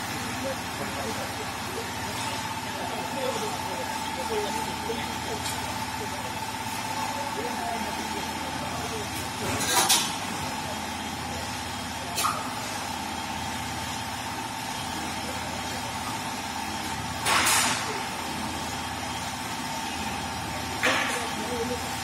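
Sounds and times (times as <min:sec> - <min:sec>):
laser cutting machine hum: 0:00.0 - 0:22.0.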